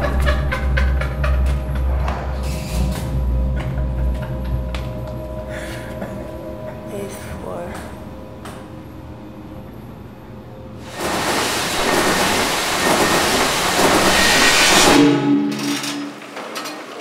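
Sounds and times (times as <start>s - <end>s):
low buzzing tone: 0.0s - 16.2s
elevator low hum: 0.0s - 16.3s
elevator rushing rumble: 0.0s - 17.0s.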